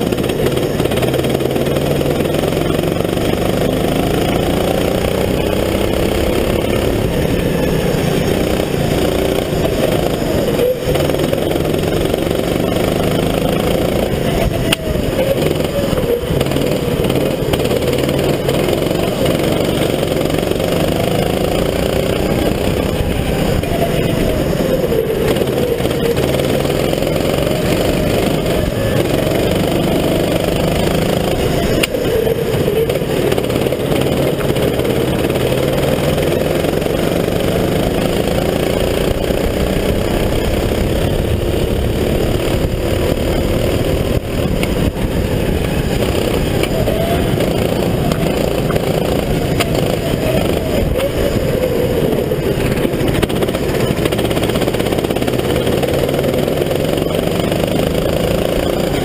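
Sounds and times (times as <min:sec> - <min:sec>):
go-kart engine revving: 0:00.0 - 0:59.0
wind and tyre noise: 0:00.0 - 0:59.0.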